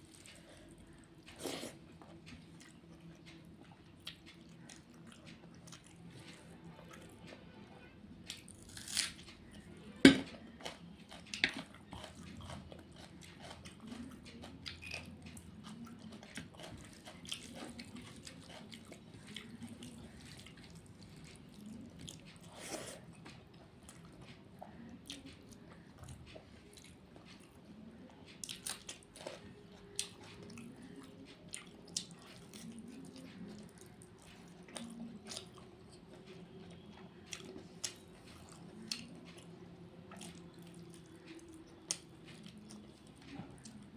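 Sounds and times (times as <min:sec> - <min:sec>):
chewing and wet mouth sounds: 0:00.0 - 0:07.6, 0:08.2 - 0:43.9.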